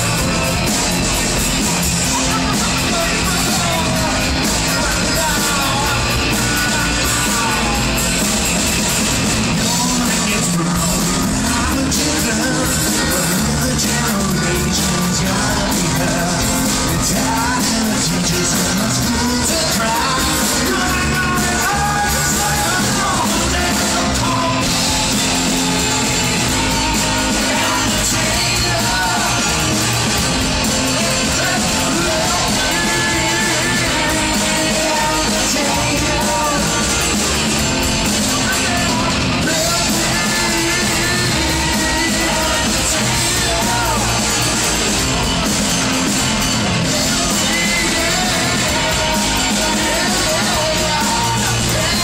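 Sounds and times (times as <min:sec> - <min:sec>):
rock music with sung vocals: 0:00.0 - 0:52.0.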